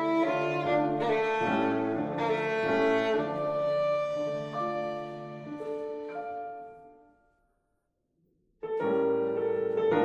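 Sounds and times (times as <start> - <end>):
piano background music: 0.0 - 7.5, 8.6 - 10.0.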